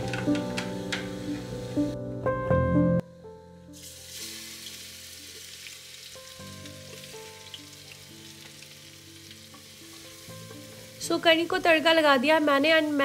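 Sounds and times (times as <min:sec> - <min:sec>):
ingredients sizzling in hot oil: 0:00.0 - 0:02.0, 0:03.8 - 0:13.0
soft background music: 0:00.0 - 0:13.0.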